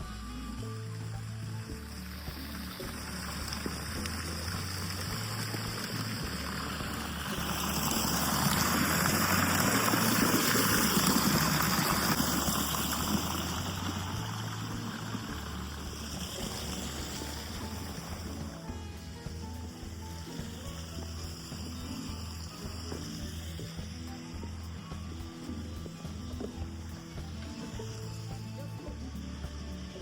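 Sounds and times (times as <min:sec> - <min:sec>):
soft music with low bass: 0:00.0 - 0:30.0.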